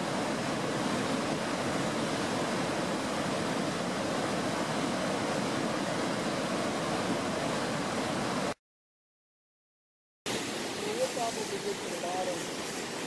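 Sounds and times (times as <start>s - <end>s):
river water rushing over rapids: 0.0s - 8.6s, 10.3s - 13.0s.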